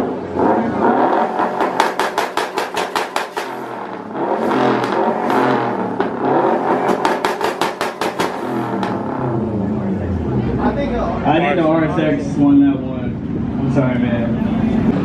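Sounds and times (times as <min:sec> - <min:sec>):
car engine revving: 0:00.0 - 0:15.0
exhaust crackles: 0:00.0 - 0:15.0.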